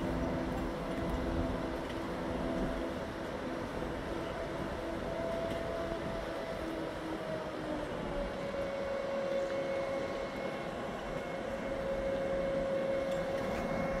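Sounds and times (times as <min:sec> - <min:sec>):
crane droning whine: 0:00.0 - 0:14.0.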